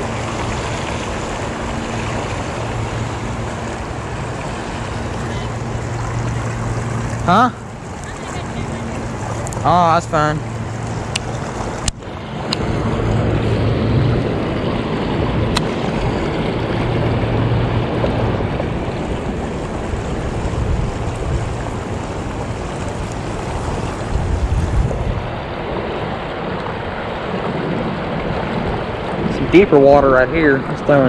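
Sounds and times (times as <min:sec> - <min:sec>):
river current rushing: 0:00.0 - 0:31.0
wind buffeting microphone: 0:00.0 - 0:31.0.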